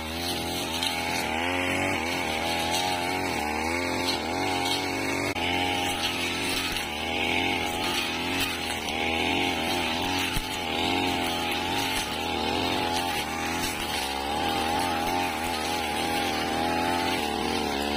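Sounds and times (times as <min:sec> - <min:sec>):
brush cutter cutting grass: 0:00.0 - 0:17.9.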